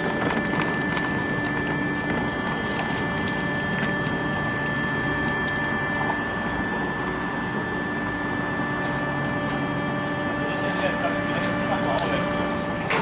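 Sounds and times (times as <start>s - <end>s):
footsteps on gravel: 0.0s - 8.2s, 8.8s - 9.7s, 10.6s - 13.0s
faint high whine: 0.0s - 13.0s
wheels rolling on rails: 0.0s - 13.0s.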